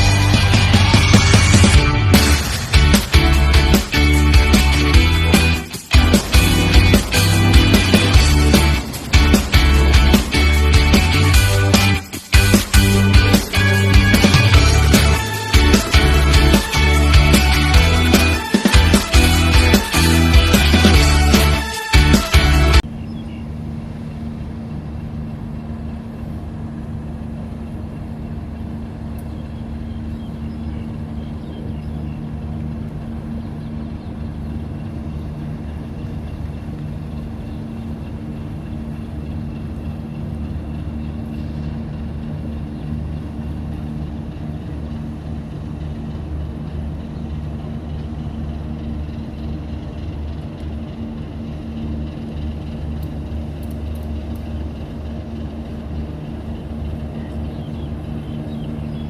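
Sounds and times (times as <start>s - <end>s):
large engine droning: 0.0s - 59.0s.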